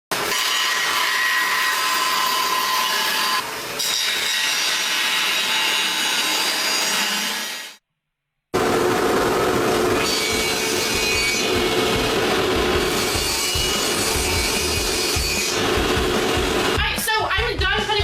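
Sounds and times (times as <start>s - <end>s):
power saw cutting wood: 0.1s - 7.8s, 8.6s - 16.8s.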